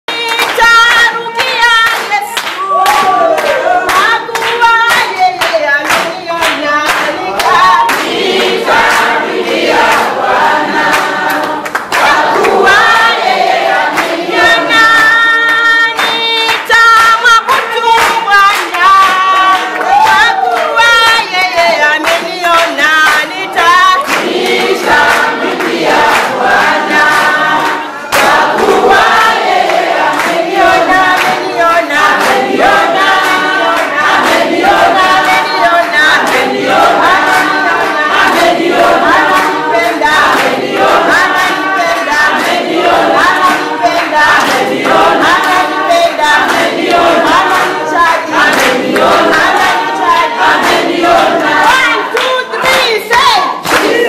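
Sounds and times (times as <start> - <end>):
group singing gospel: 0.0 - 54.0
hand clapping: 0.1 - 54.0.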